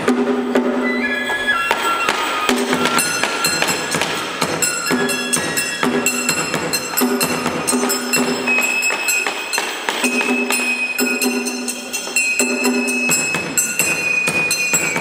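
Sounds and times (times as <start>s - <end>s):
held higher notes: 0.0s - 15.0s.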